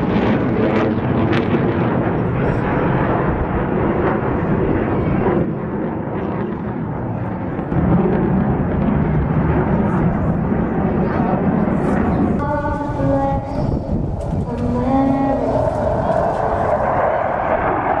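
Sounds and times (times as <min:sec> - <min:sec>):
jet engine roaring: 0:00.0 - 0:18.0.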